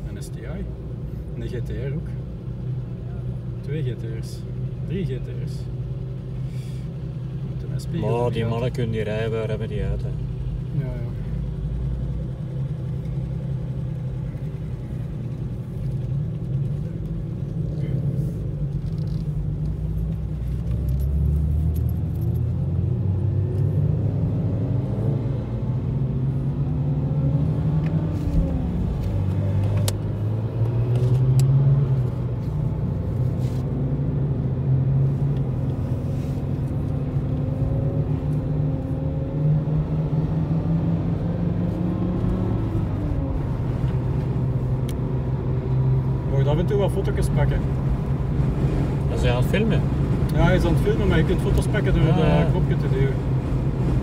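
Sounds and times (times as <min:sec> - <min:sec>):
car engine accelerating: 0:05.5 - 0:54.0.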